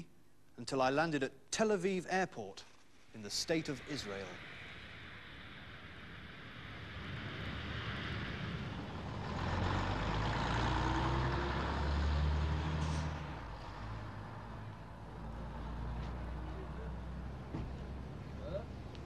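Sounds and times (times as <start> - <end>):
bus diesel engine passing: 3.3 - 19.0.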